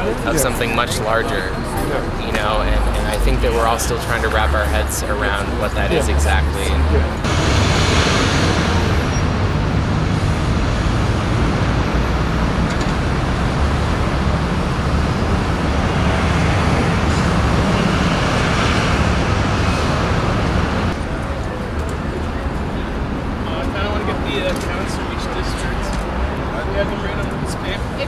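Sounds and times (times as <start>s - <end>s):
city road traffic noise: 0.0s - 28.0s.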